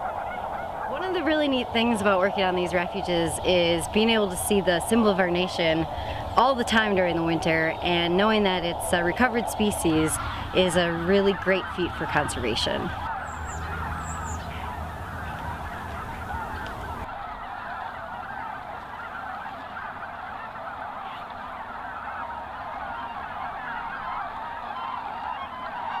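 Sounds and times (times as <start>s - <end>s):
flock of geese calling: 0.0s - 26.0s.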